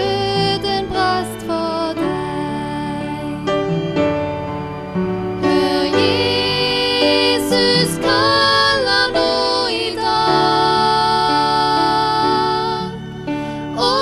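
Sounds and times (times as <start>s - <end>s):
women singing together: 0.0s - 3.3s, 5.4s - 13.1s, 13.7s - 14.0s
upright piano chords: 0.0s - 14.0s.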